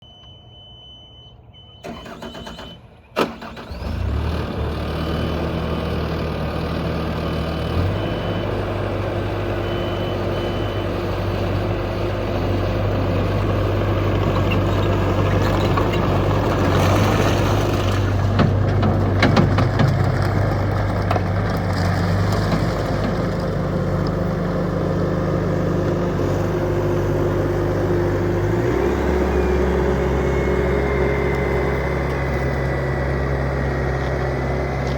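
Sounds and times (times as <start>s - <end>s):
diesel engine starting and running: 0.0s - 34.9s.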